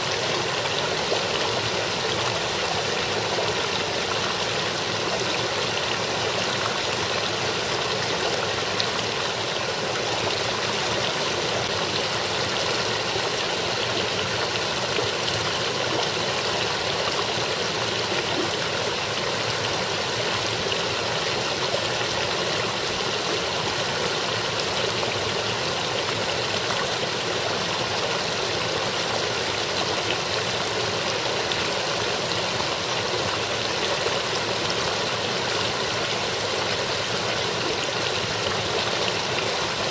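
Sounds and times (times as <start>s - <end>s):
brook splashing over rocks: 0.0s - 39.9s.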